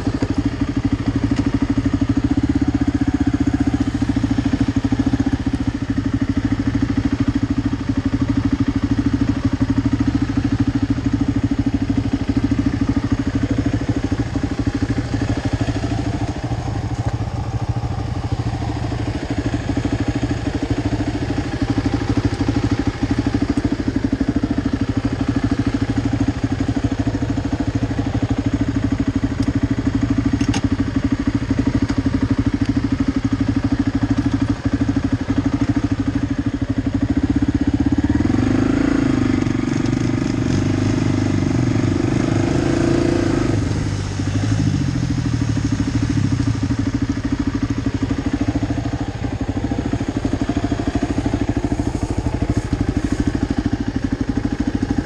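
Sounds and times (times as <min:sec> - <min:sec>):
quad engine idling and revving: 0:00.0 - 0:55.0.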